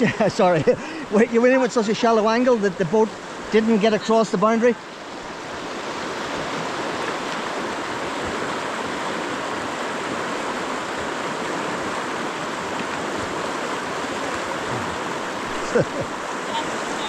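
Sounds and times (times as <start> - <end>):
river rushing over rocks: 0.4 - 17.0.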